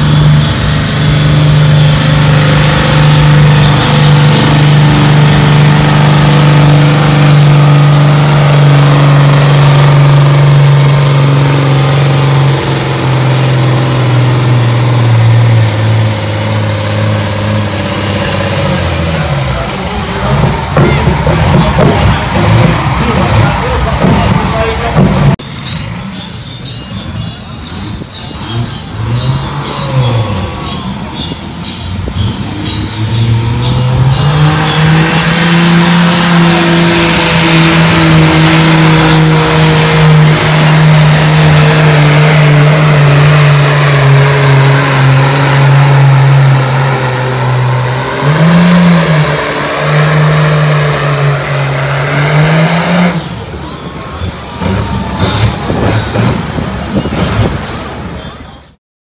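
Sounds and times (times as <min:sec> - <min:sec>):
tractor diesel engine under load: 0:00.0 - 0:58.8.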